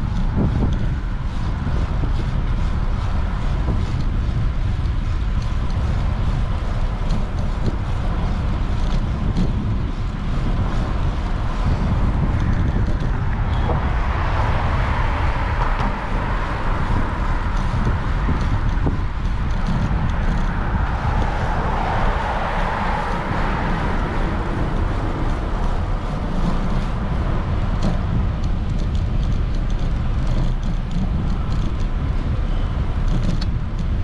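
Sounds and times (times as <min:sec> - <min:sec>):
street traffic passing: 0:00.0 - 0:34.0
vehicle tyre noise rushing: 0:00.0 - 0:34.0
wind rumbling on microphone: 0:00.0 - 0:34.0.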